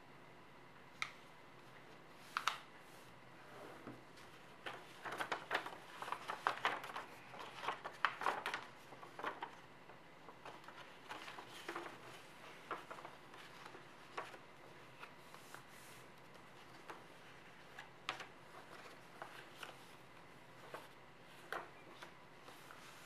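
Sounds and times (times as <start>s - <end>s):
paper crinkling: 4.2s - 23.0s.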